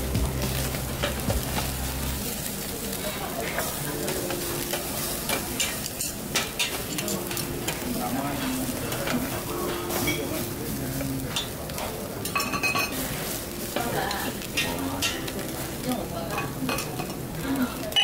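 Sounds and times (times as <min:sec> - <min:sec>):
meat sizzling on grill: 0:00.0 - 0:18.0.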